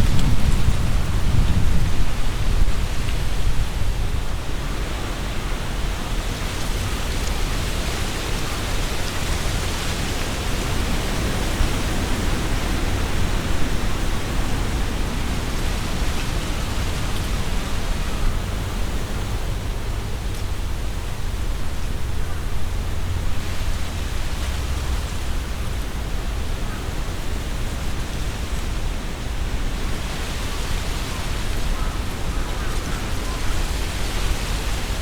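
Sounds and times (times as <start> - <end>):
leaves rustling in wind: 0.0 - 35.0
wind buffeting microphone: 0.0 - 35.0.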